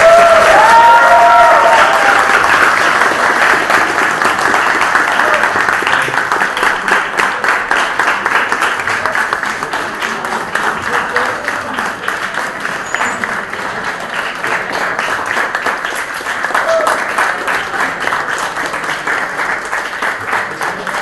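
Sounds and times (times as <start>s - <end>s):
audience applause: 0.0s - 21.0s.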